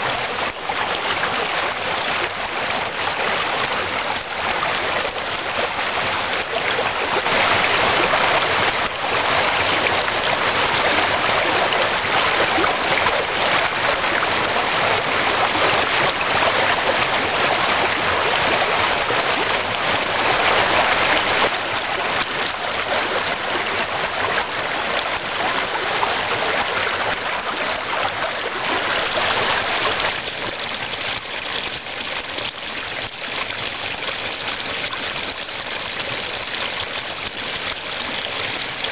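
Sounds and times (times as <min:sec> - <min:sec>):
water rushing down waterfall: 0:00.0 - 0:38.9.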